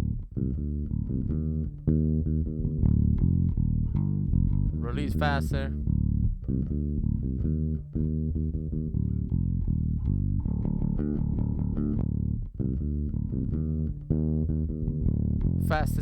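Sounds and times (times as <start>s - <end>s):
bass guitar line: 0.0s - 16.0s.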